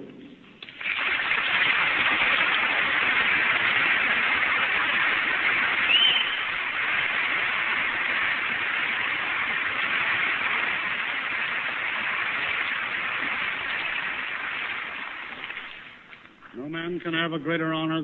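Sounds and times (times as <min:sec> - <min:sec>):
recording hiss: 0:00.0 - 0:18.0
audience applauding: 0:00.6 - 0:16.1.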